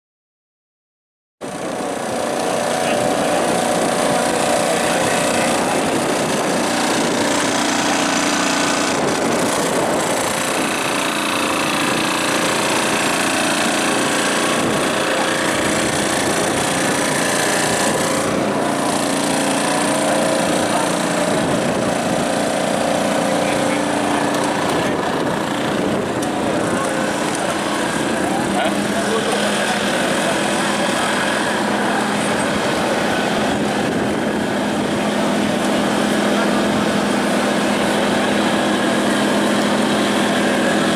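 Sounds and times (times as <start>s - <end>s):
small engines running: 1.4s - 40.9s
voices: 1.8s - 40.9s.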